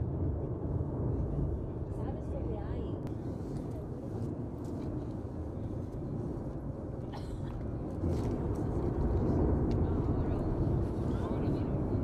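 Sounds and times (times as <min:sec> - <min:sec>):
volcano low rumble: 0:00.0 - 0:12.0.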